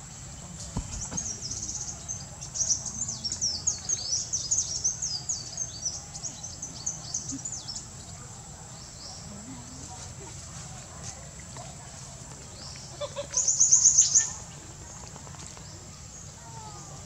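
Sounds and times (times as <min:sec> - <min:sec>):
outdoor background noise: 0:00.0 - 0:17.0
songbird chirping and trilling: 0:00.0 - 0:17.0.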